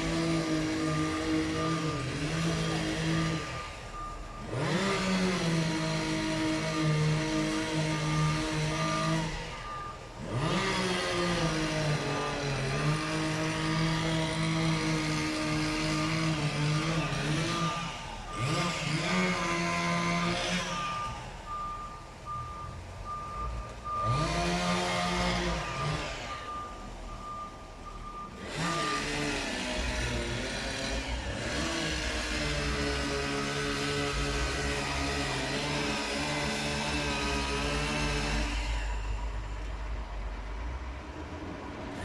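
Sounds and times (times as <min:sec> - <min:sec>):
reversing alarm beeping: 0:00.0 - 0:30.2, 0:31.6 - 0:38.5
diesel engine revving: 0:00.0 - 0:42.0.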